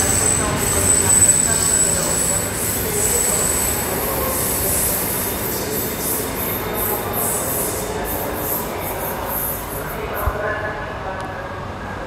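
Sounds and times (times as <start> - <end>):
diesel locomotive engine rumble: 0.0 - 10.2.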